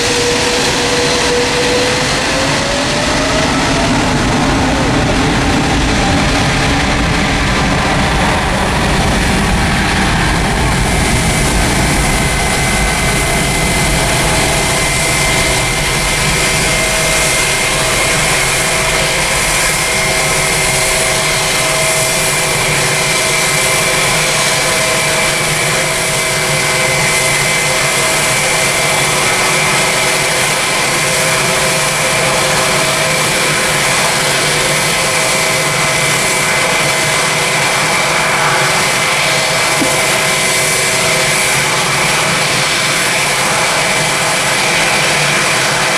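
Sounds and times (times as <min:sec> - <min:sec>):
high whine: 0:00.0 - 0:45.9
jet engine roar: 0:00.0 - 0:45.9.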